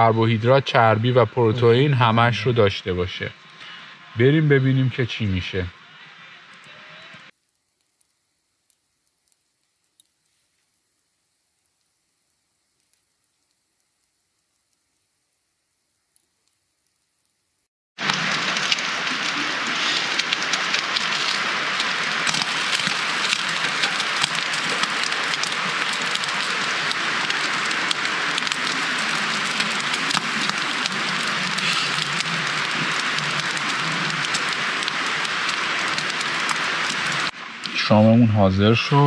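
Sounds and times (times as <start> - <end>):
steady rain patter: 0.0 - 39.0.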